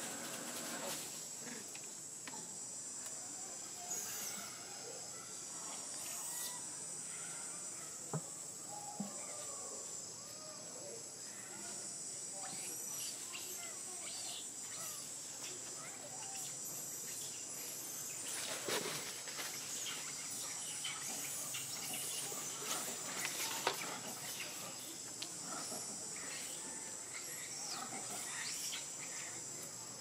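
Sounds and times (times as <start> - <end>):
high-pitched insect drone: 0.0 - 1.6, 3.5 - 7.7, 8.7 - 30.0.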